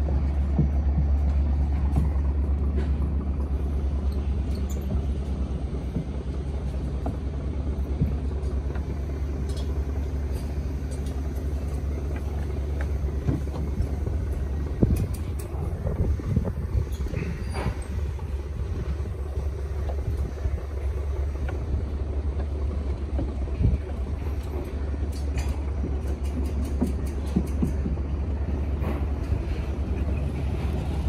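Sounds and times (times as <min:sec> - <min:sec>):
engine rumbling: 0:00.0 - 0:31.0.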